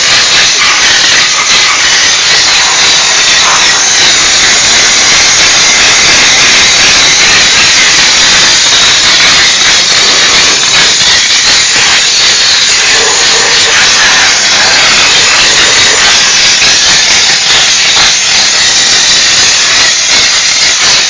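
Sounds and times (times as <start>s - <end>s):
steam cleaner jet hissing: 0.0s - 21.0s.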